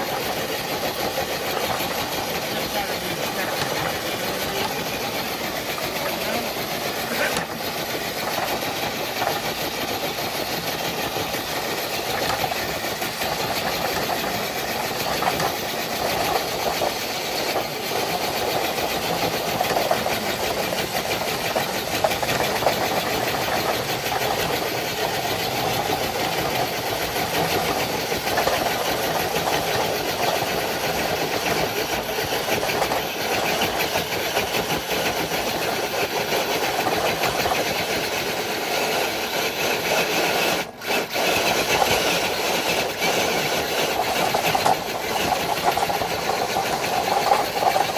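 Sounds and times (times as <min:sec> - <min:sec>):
electric motor and gears whining: 0:00.0 - 0:47.9.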